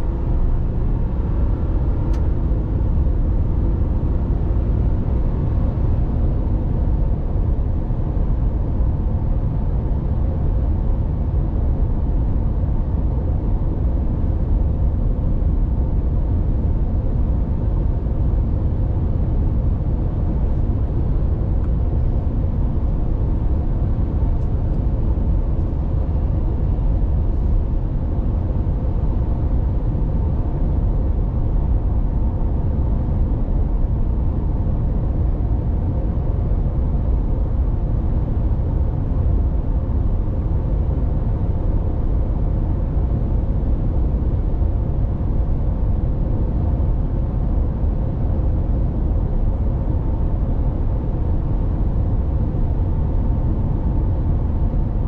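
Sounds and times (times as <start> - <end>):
engine and drivetrain hum: 0.0 - 55.0
road and tyre rumble: 0.0 - 55.0.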